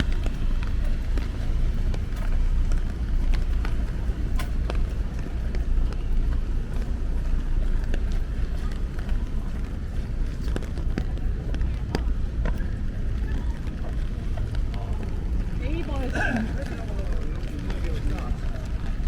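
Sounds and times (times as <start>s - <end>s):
low city rumble: 0.0s - 19.0s
rain taps and drips: 0.0s - 19.0s.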